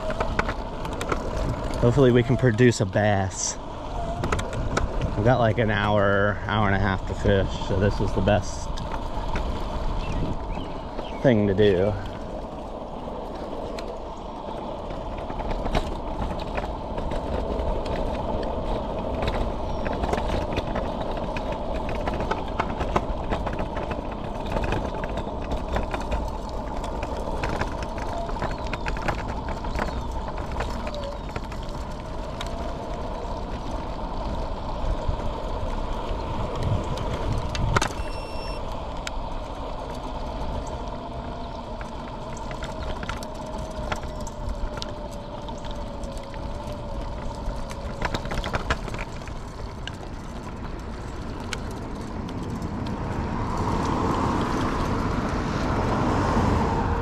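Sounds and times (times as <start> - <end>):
rattles and knocks over bumps: 0.0 - 57.0
tyre and road noise: 0.0 - 57.0
wind buffeting microphone: 0.0 - 57.0.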